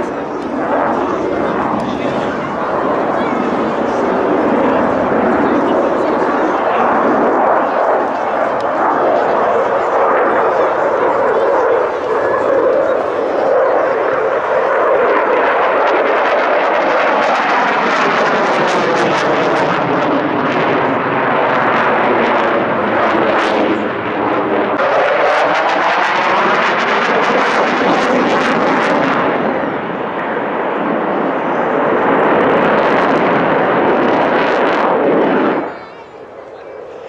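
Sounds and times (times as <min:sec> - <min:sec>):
aircraft engine flying past: 0:00.0 - 0:37.0.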